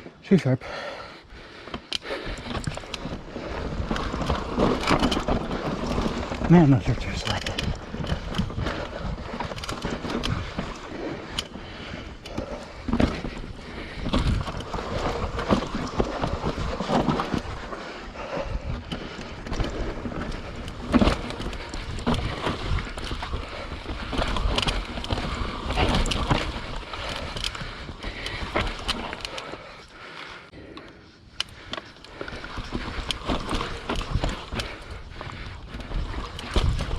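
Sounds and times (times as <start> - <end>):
bike tyres rolling over dirt and rocks: 0.4 - 36.9
bike knocking and rattling: 1.4 - 36.9.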